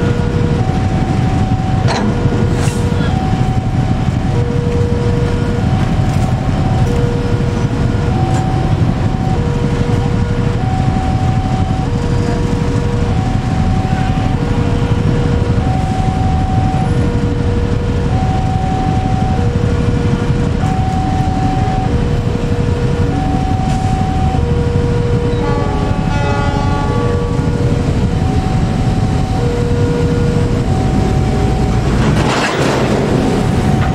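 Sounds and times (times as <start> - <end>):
freight train wagons rolling: 0.0 - 33.9
two-tone warning signal: 0.0 - 33.9.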